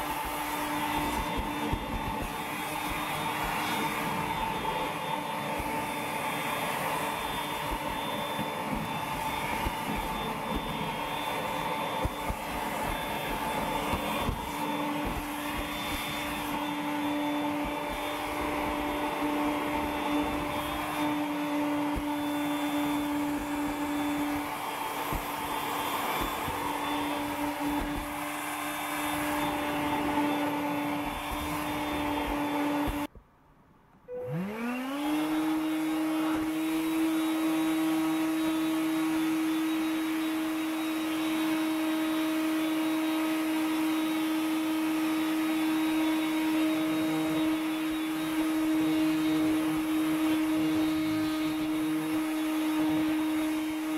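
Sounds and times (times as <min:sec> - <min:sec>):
stick vacuum running: 0:00.0 - 0:33.1, 0:34.1 - 0:53.9.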